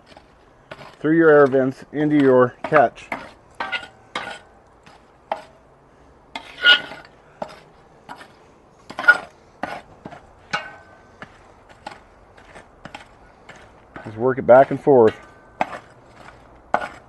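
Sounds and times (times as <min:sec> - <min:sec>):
metal tool scraping steel bowl: 0:00.1 - 0:04.5, 0:06.4 - 0:08.3, 0:08.9 - 0:11.0, 0:11.8 - 0:17.0.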